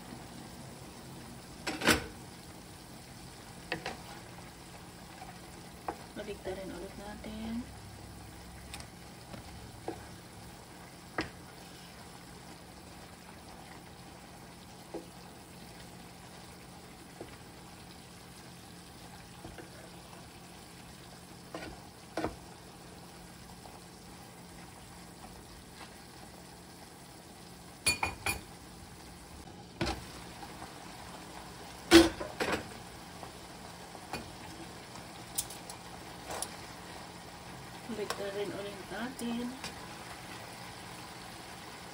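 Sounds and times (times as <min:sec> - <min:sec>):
liquid simmering in a pot: 0:00.0 - 0:41.9.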